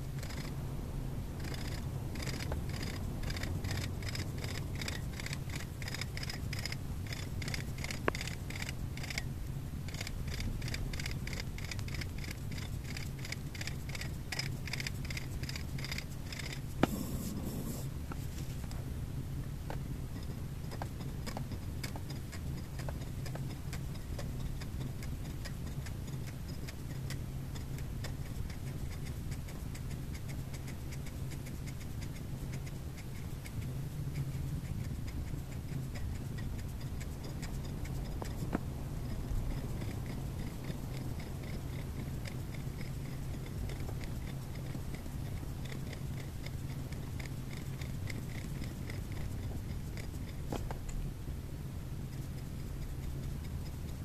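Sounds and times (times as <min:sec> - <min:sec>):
regular ticking: 0:00.0 - 0:17.0, 0:19.4 - 0:54.0
steady low hum: 0:00.0 - 0:54.0.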